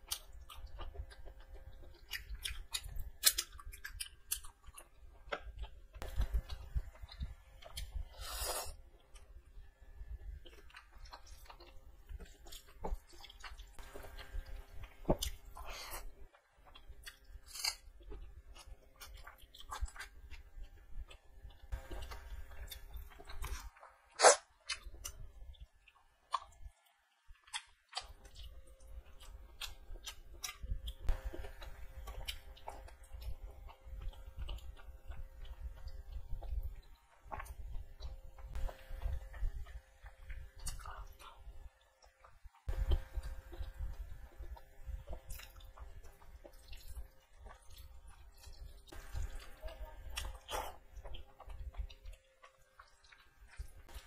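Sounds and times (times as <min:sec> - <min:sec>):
person chewing: 0:00.0 - 0:54.0.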